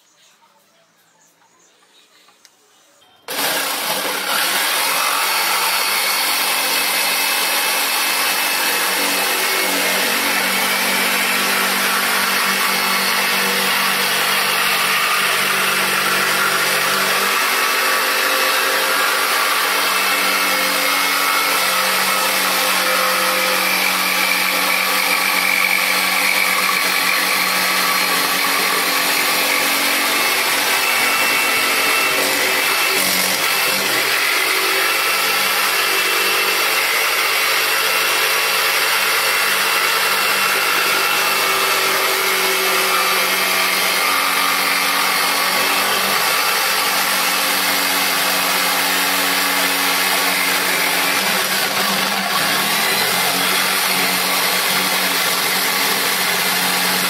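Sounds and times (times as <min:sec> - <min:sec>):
jigsaw cutting plywood: 0:03.3 - 0:57.0.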